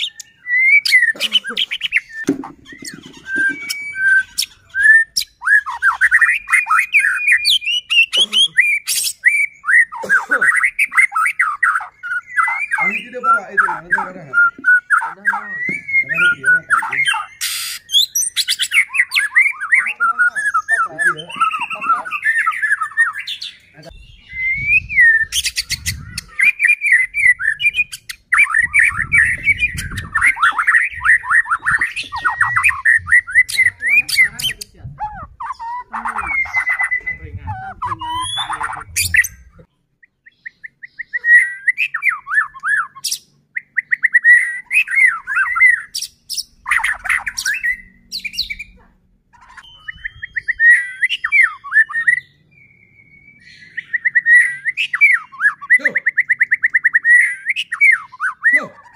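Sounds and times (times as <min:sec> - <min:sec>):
songbird singing: 0:00.0 - 0:58.9.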